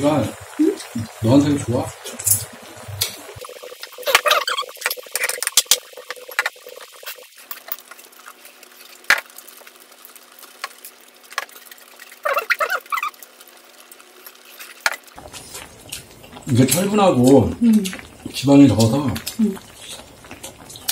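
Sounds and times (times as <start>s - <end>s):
stew bubbling at a boil: 0.0s - 20.9s.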